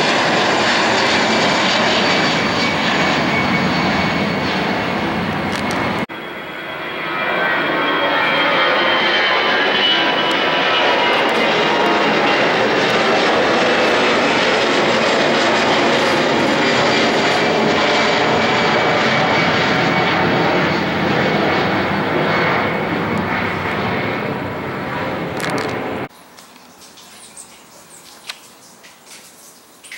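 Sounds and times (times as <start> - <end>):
jet airliner roar overhead: 0.0 - 26.1
jet engine whine: 0.0 - 26.1.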